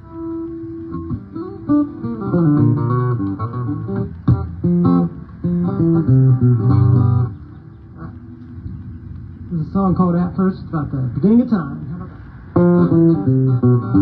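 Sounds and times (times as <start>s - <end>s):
guitar playing: 0.0s - 14.0s.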